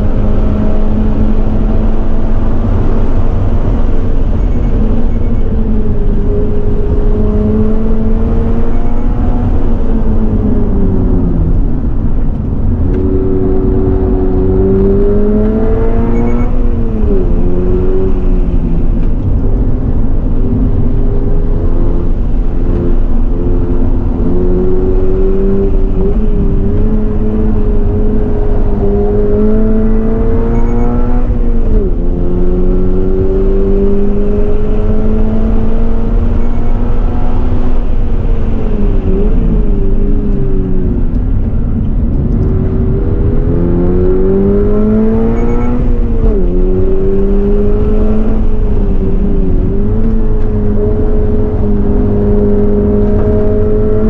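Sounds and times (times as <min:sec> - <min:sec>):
car engine accelerating hard: 0:00.0 - 0:54.0
road and wind noise: 0:00.0 - 0:54.0.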